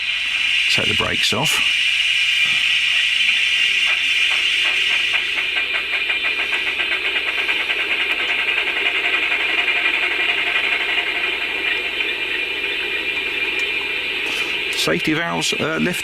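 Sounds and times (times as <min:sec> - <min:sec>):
model steam locomotive chuffing: 0:00.0 - 0:16.0
steady hiss: 0:00.0 - 0:16.0.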